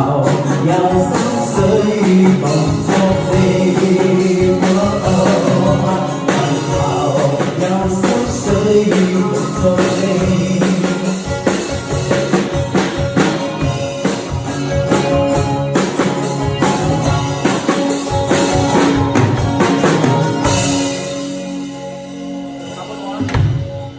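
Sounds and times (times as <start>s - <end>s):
band music: 0.0s - 23.9s
steady drum beat: 0.0s - 23.9s
sustained guitar notes: 0.0s - 23.9s.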